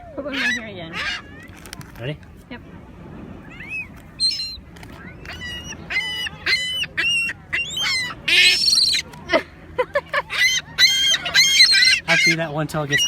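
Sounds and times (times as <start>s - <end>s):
seagulls squawking: 0.0s - 1.9s, 3.4s - 9.4s, 10.0s - 13.0s.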